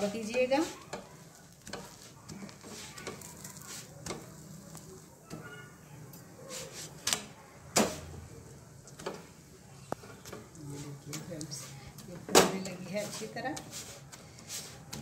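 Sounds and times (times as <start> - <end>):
spatula scraping griddle: 0.0 - 7.1, 10.0 - 15.0.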